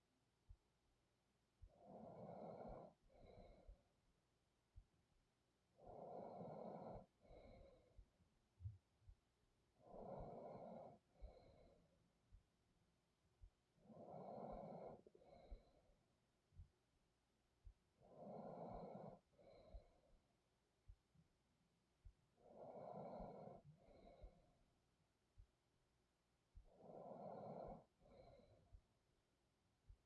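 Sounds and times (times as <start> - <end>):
person breathing asleep: 1.6 - 30.0.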